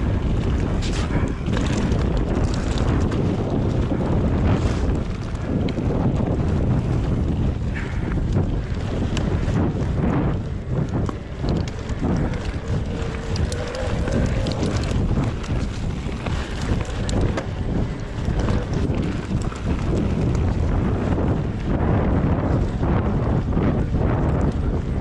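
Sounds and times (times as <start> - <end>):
bike rumbling on rough trail: 0.0 - 25.0
wind buffeting microphone: 0.0 - 25.0.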